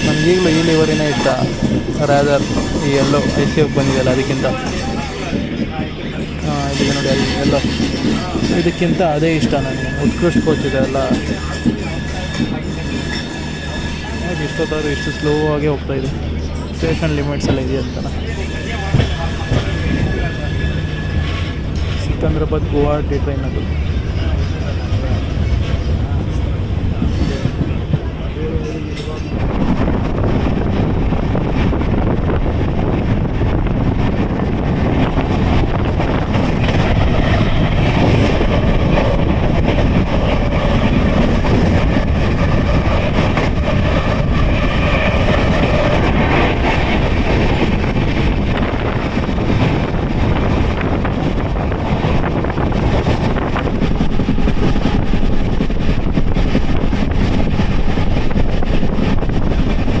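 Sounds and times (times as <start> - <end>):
train rumble and rail clatter: 0.0 - 60.0.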